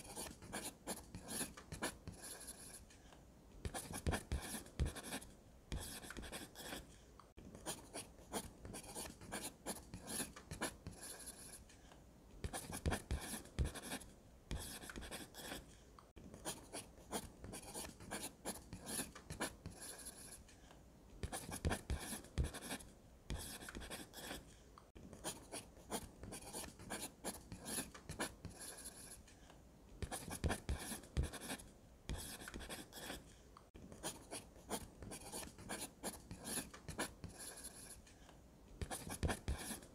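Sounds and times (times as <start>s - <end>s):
pencil scratching on paper: 0.0s - 2.9s, 3.6s - 11.7s, 12.4s - 20.5s, 21.2s - 29.3s, 30.0s - 38.1s, 38.8s - 39.9s.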